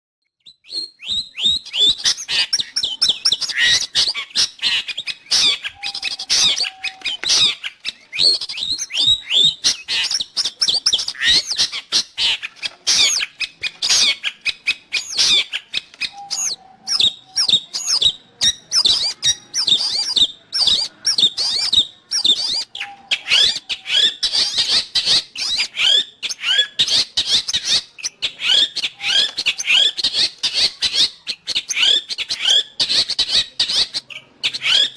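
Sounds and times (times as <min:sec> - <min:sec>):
bird chattering song: 0:00.4 - 0:34.9.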